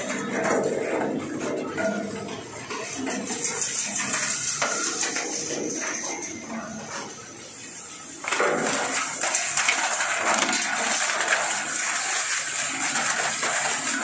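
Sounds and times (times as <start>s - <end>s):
machine drum thrashing rags: 0.0s - 14.0s.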